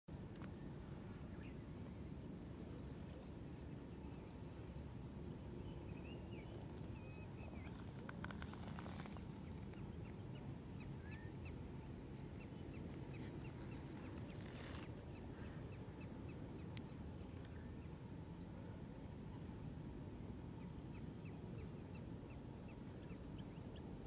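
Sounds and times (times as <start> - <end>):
low background rumble: 0.1 - 24.0.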